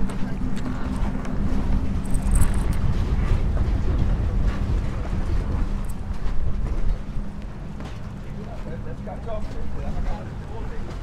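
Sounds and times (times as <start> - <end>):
low mechanical hum: 0.0 - 11.0
wind rumbling on microphone: 0.0 - 11.0.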